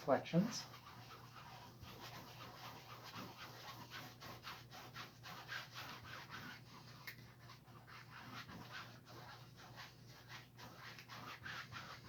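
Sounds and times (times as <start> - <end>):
paintbrush scrubbing on canvas: 0.0 - 12.0.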